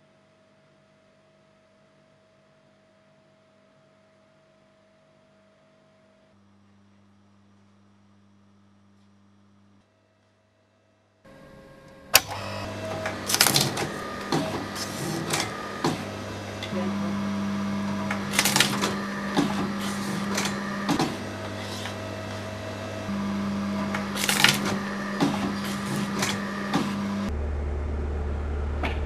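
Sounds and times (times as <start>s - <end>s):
machine hum: 5.8s - 29.0s.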